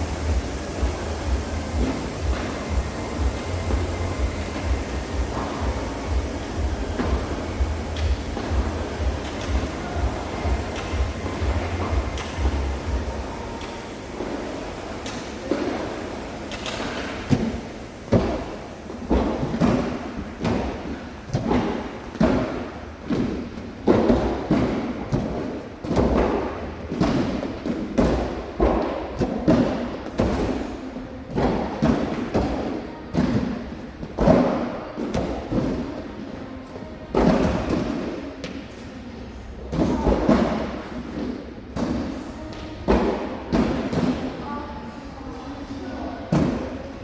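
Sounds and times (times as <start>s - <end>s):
heavy thuds in gym: 0.0s - 13.3s, 17.2s - 36.1s, 37.1s - 38.6s, 39.6s - 44.4s.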